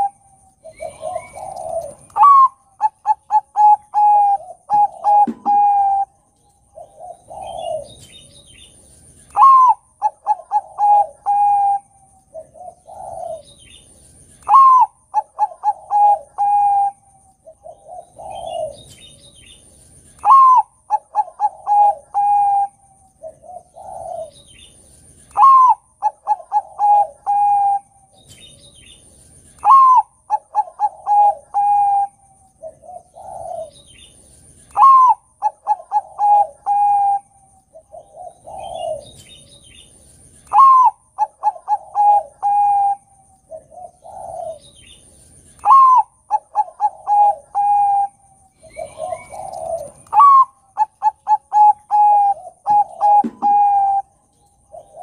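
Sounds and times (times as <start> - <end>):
dove cooing song: 0.0 - 55.0.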